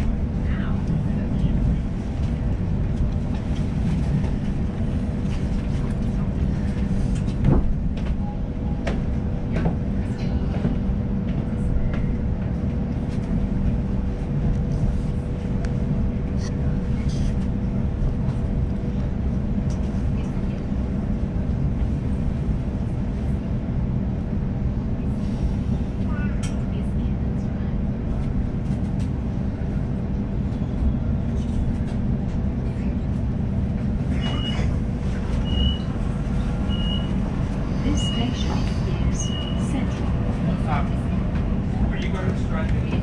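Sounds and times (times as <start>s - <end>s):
constant hum: 0.0s - 43.0s
train low rumble: 0.0s - 43.0s.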